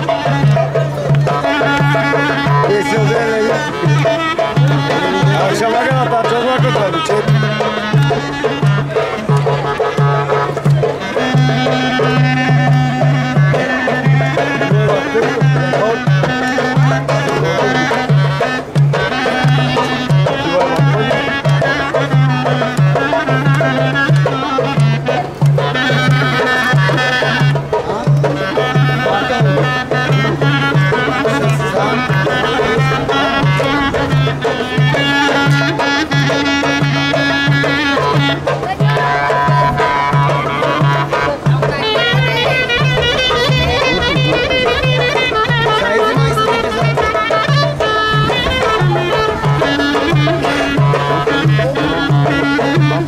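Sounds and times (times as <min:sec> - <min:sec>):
folk dance band music: 0:00.0 - 0:53.0.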